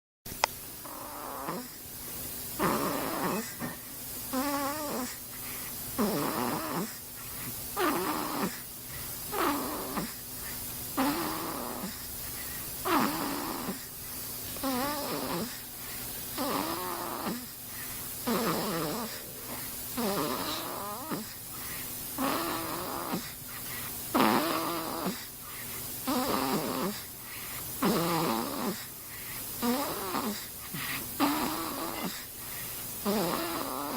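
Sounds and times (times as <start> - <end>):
rhythmic whistling snoring: 0.8 - 1.8, 2.6 - 33.9.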